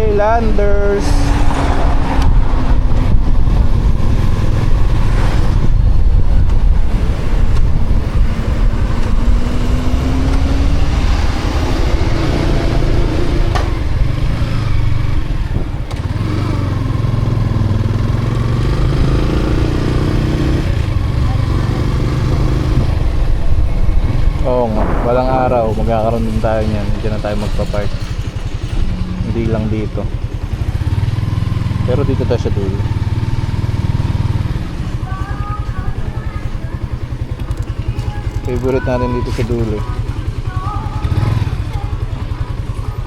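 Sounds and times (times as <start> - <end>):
motorcycle engine running: 0.0 - 43.0
road and wind noise rumble: 0.0 - 43.0.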